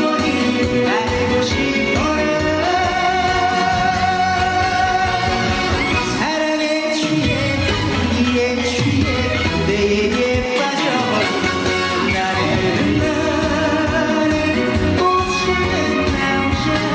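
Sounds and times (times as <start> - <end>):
band playing: 0.0 - 16.9
man singing: 0.0 - 16.9.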